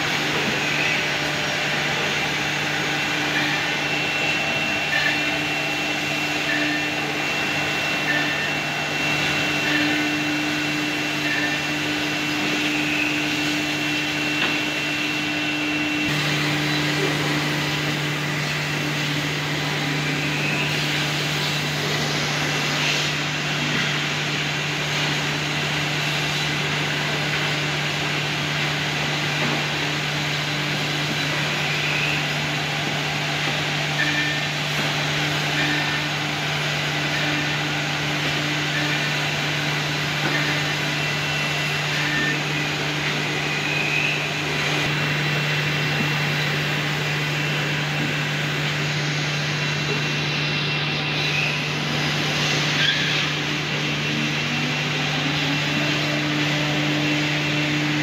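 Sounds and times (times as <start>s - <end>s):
machine motor hum and whine: 0.0s - 58.0s.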